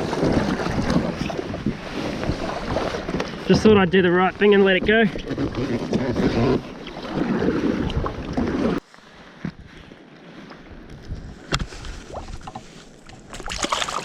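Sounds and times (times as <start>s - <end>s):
water noise: 0.0s - 14.0s.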